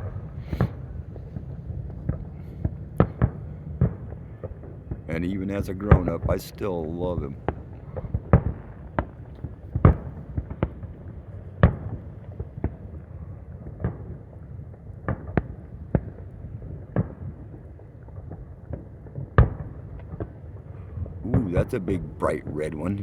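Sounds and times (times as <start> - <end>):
fireworks bangs and pops: 0.0 - 13.0, 13.6 - 23.0.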